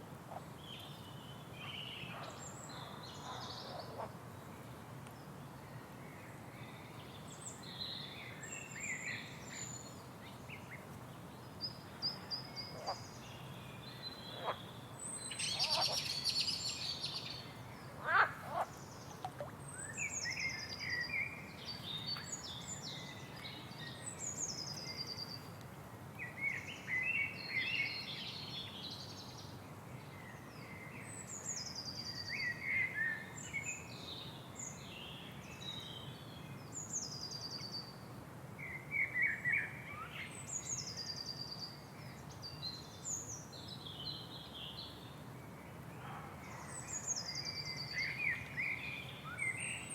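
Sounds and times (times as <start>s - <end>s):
low background noise: 0.0s - 49.9s.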